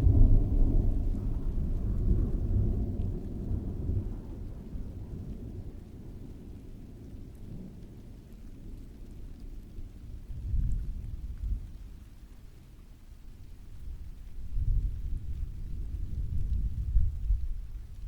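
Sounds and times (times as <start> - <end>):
thunder rumbling: 0.0 - 12.1, 13.5 - 18.0
steady rain falling: 0.0 - 18.0.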